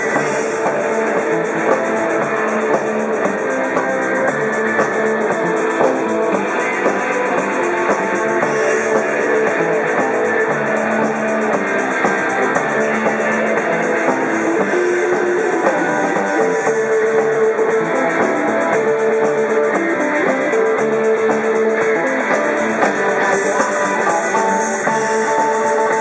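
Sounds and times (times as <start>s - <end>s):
bass guitar: 0.0s - 26.0s
drum kit: 0.0s - 26.0s
electric guitars: 0.0s - 26.0s.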